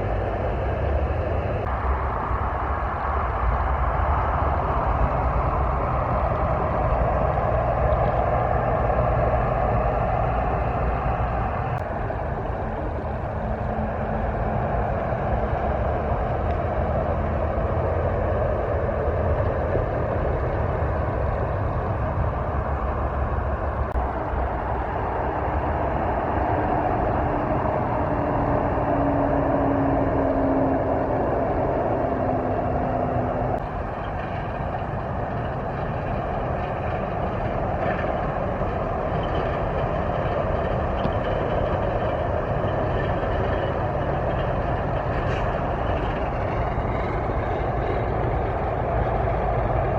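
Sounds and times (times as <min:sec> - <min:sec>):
truck engine and road noise: 0:00.0 - 0:49.9.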